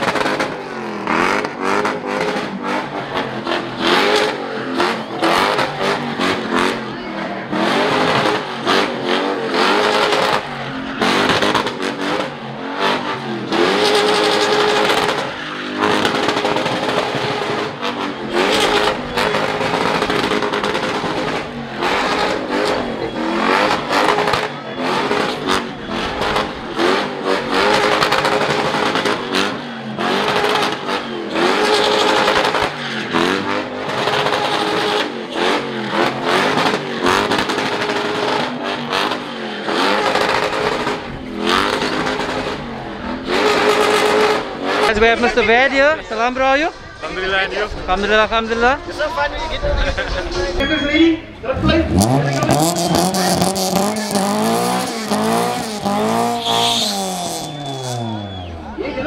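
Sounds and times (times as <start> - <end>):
car engine revving hard: 0.0 - 45.7, 51.4 - 59.0.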